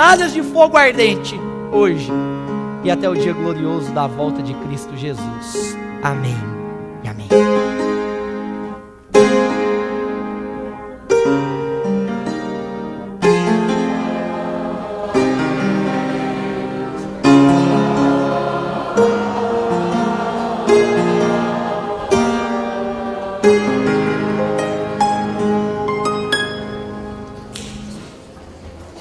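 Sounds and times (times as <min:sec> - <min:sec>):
slow instrumental chords ringing: 0:01.1 - 0:27.6.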